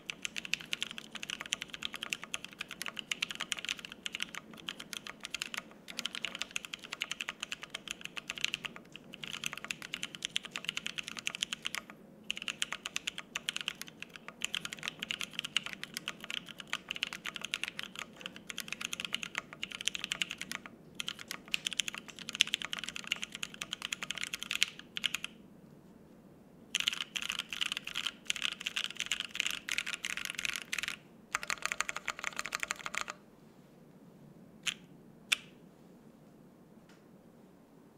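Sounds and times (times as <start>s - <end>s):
mechanical keyboard typing: 0.0s - 25.4s, 26.7s - 33.2s.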